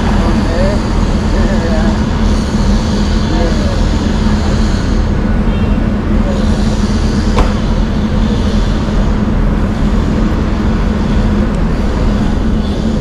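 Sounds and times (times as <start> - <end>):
constant low hum: 0.0 - 13.0
passing vehicles rumble: 0.0 - 13.0.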